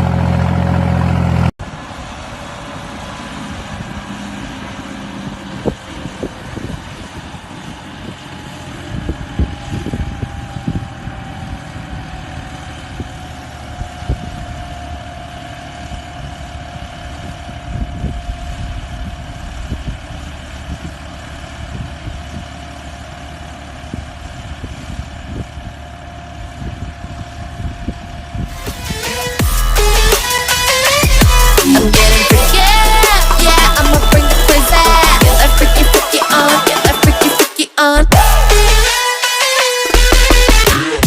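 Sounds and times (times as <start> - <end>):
tractor diesel engine whine: 0.0 - 41.0.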